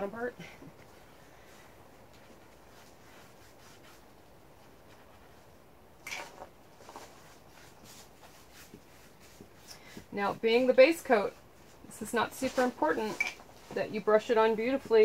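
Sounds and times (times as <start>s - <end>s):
faint brushing: 0.1s - 15.0s
brush strokes on wood: 1.0s - 5.6s, 6.7s - 15.0s.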